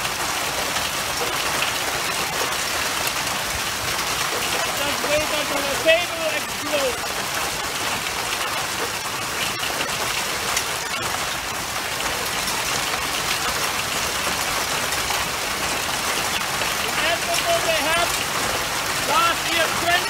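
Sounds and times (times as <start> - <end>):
hail and rain on concrete: 0.0 - 20.0.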